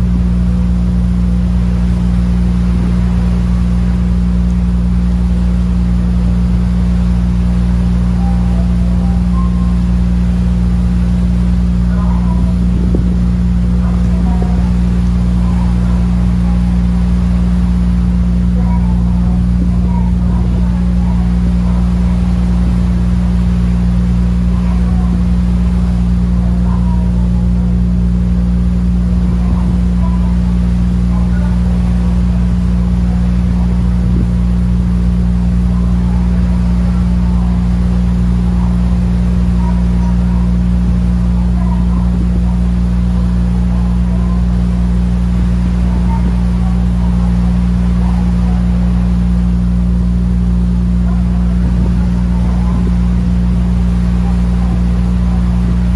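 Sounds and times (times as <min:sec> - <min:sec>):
ferry engines droning: 0:00.0 - 0:55.9.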